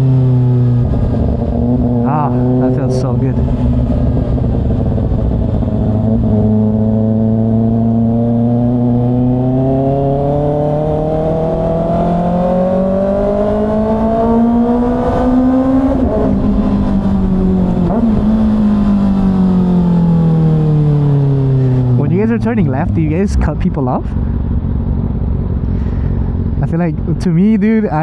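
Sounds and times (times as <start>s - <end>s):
motorcycle engine accelerating: 0.0s - 26.8s
wind and road noise: 0.0s - 28.0s.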